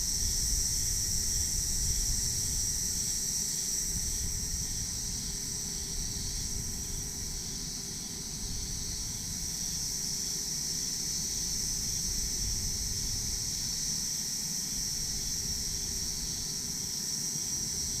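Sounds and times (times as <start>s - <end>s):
crickets and insects buzzing: 0.0s - 18.0s.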